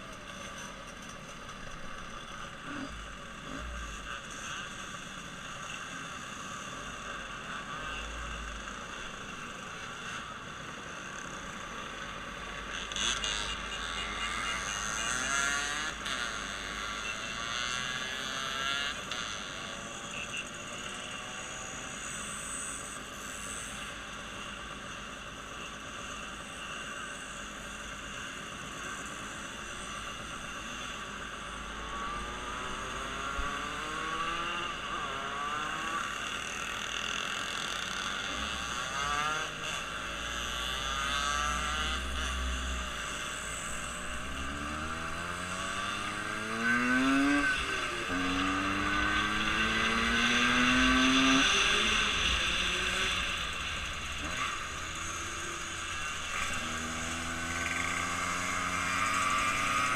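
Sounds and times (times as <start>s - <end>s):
road noise: 0.0s - 59.9s
vehicle engines revving and passing: 0.0s - 59.9s.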